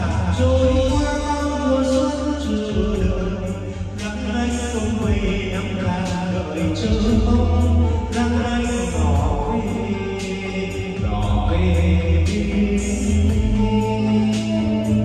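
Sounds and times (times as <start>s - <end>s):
karaoke backing track: 0.0s - 15.0s
man singing into a microphone: 0.0s - 15.0s.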